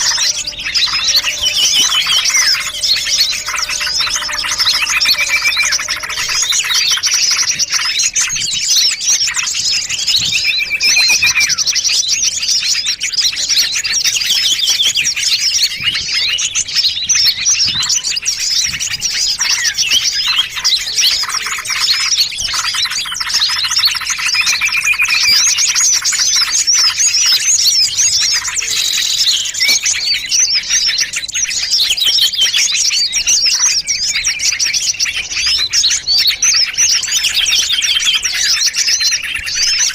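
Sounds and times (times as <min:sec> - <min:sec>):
songbirds chirping and trilling: 0:00.0 - 0:39.9
whistled bird notes: 0:00.0 - 0:39.9.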